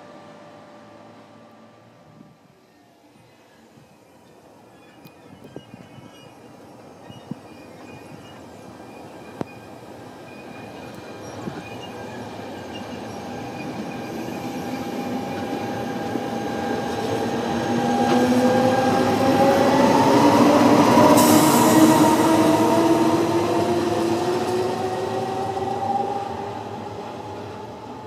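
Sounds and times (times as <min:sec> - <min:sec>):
train passing close by: 0:00.0 - 0:28.0.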